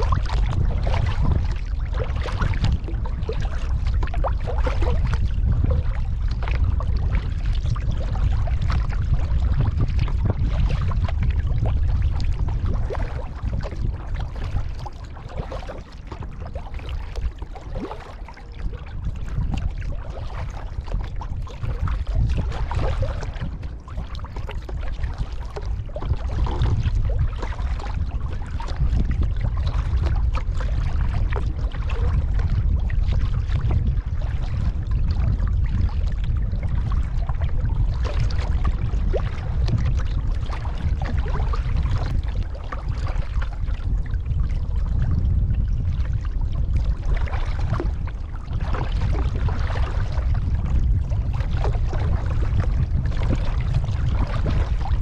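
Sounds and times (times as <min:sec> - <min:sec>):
paddle splashing water: 0:00.0 - 0:45.1, 0:45.9 - 0:55.0
steady low rumble: 0:00.0 - 0:55.0
water lapping at hull: 0:00.0 - 0:55.0.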